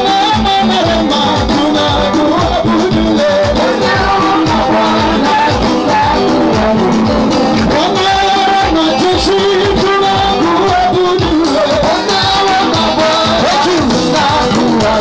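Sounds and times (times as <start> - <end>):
loud drum beat: 0.0 - 15.0
person singing: 0.0 - 15.0.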